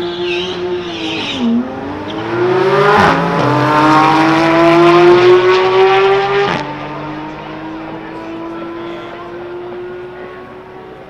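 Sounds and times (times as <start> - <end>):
sports car engines accelerating: 0.0 - 11.0.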